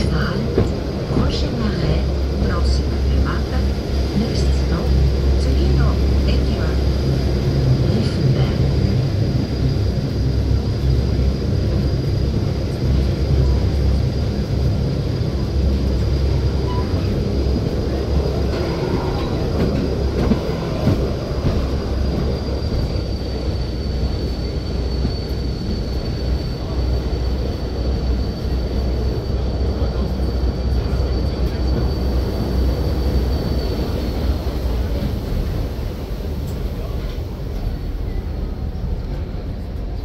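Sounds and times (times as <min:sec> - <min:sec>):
train rumbling and rolling: 0:00.0 - 0:40.0.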